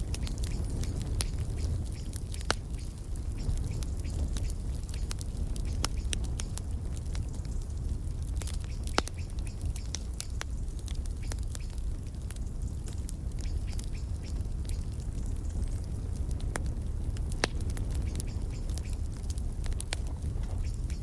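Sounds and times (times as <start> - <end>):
low rumble of flames: 0.0 - 21.0
wood fire popping and snapping: 0.0 - 21.0.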